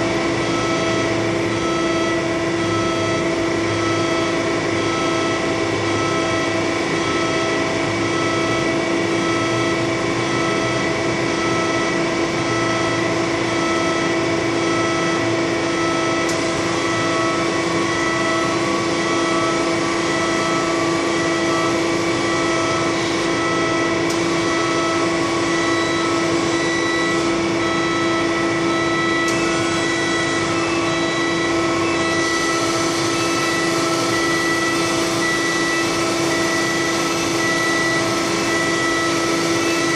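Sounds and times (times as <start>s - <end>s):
hydraulic power unit humming: 0.0s - 39.9s.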